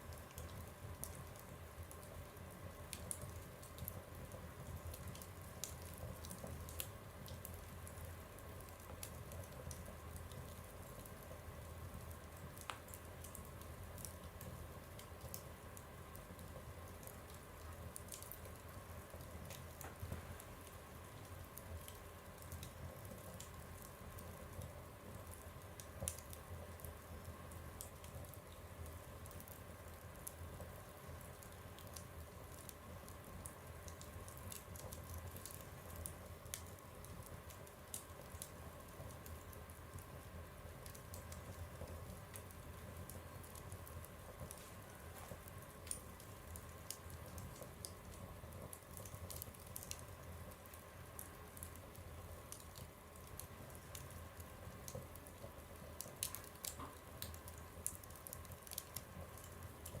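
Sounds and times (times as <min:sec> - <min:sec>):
fire crackling in a stove: 0:00.0 - 1:00.0
small pops of fire: 0:00.0 - 1:00.0.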